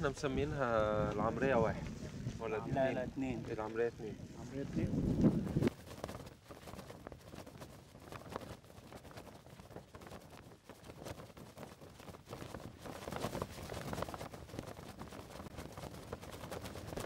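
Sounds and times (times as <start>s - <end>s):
low wind noise: 0.0s - 17.0s.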